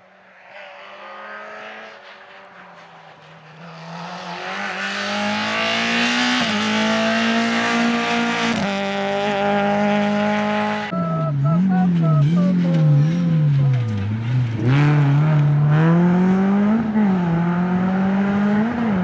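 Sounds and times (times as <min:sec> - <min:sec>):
rally car engine accelerating: 0:00.2 - 0:19.0.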